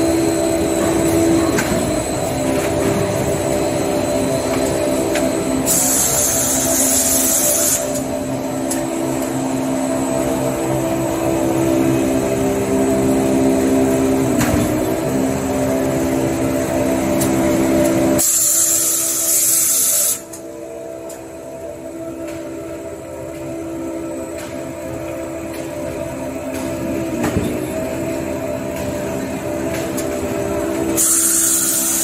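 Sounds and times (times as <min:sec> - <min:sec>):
machine rollers humming: 0:00.0 - 0:32.0.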